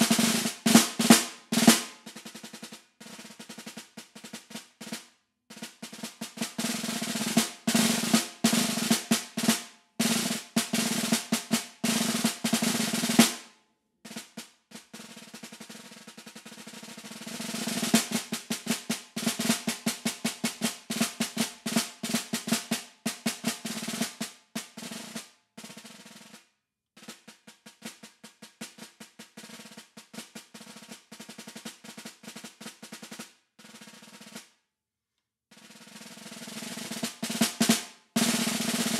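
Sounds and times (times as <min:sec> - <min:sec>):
snare drum rolls and strokes: 0:00.0 - 0:13.5, 0:14.1 - 0:34.5, 0:35.5 - 0:38.9.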